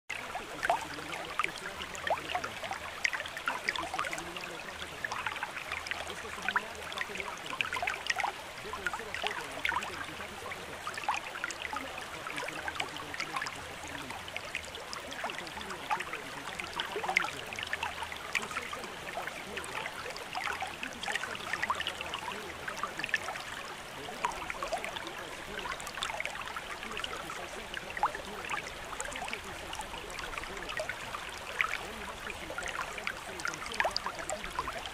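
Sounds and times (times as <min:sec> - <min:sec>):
water trickling and babbling: 0:00.1 - 0:34.9.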